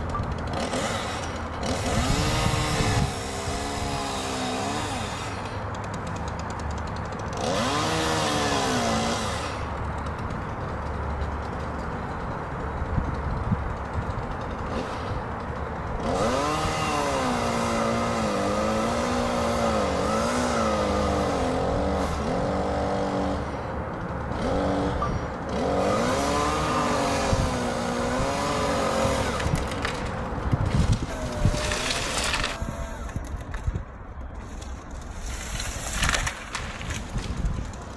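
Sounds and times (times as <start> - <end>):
excavator diesel engine under load: 0.0 - 35.3.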